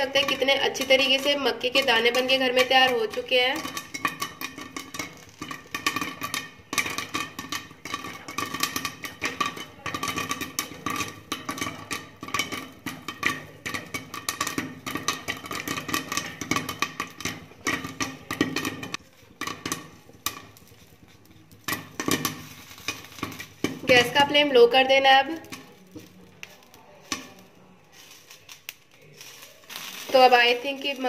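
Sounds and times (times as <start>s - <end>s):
popcorn popping against a lid: 0.0s - 31.0s.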